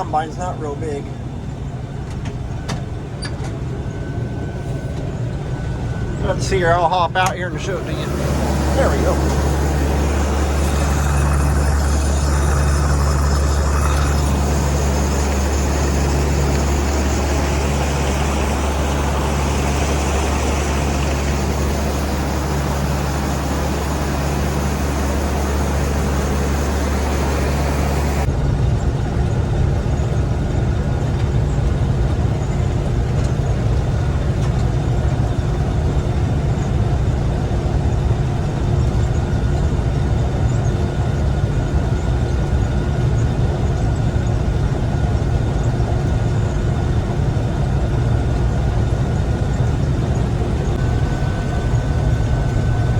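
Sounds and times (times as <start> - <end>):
combine harvester engine droning: 0.0 - 52.9.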